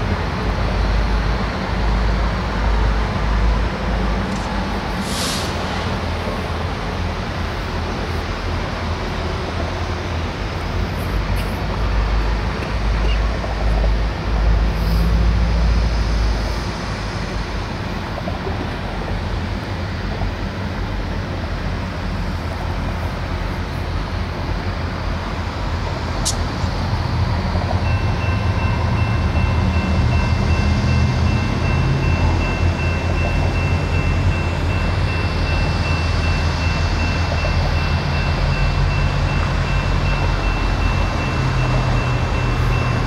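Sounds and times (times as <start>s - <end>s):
locomotive engine rumble: 0.0s - 43.0s.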